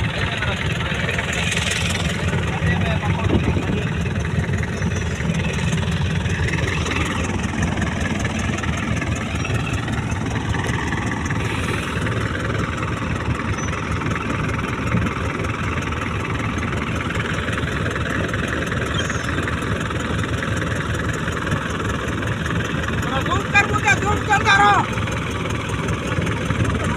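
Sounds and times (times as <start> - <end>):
boat engine rumbling: 0.0 - 26.9.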